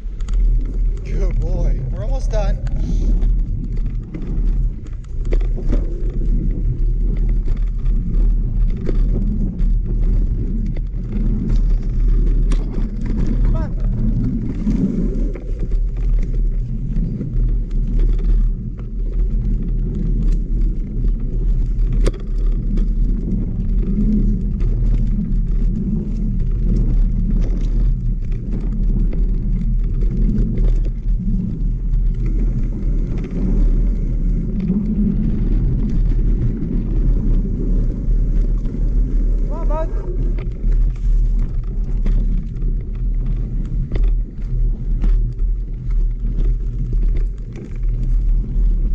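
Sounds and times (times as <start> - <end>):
bike clicks and rattles: 0.0 - 48.9
wind and tyre rumble: 0.0 - 48.9.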